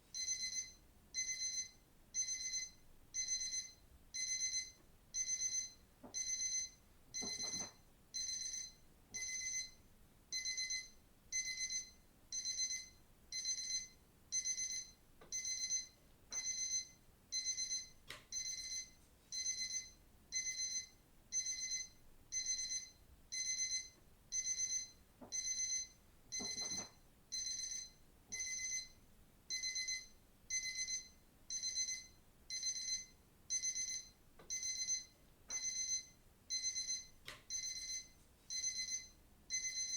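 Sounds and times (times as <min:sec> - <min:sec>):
digital watch alarm beeping: 0:00.2 - 0:39.9.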